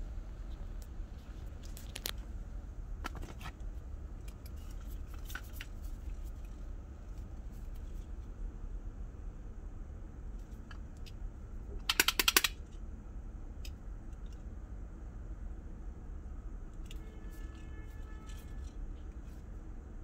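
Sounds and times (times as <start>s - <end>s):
steady low rumble: 0.0s - 11.9s, 12.5s - 20.0s.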